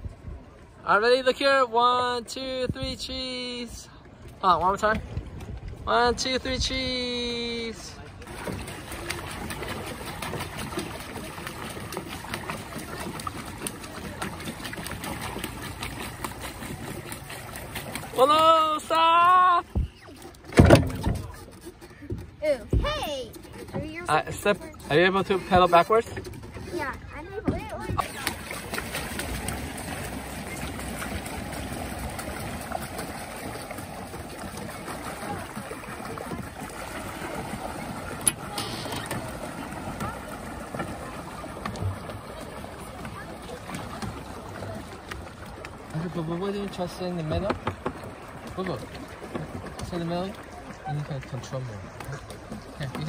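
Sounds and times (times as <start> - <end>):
water lapping against boat: 0.0 - 53.0.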